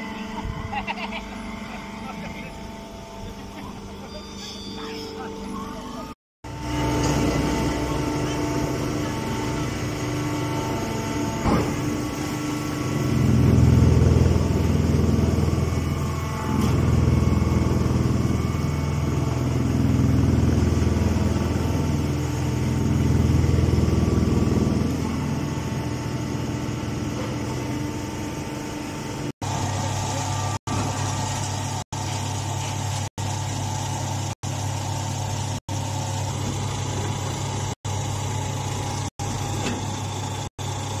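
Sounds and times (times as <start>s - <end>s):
baler machine hum: 0.0s - 41.0s.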